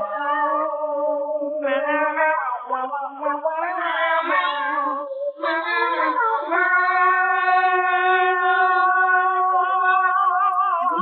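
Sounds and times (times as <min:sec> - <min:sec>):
person singing without words: 0:00.0 - 0:11.0.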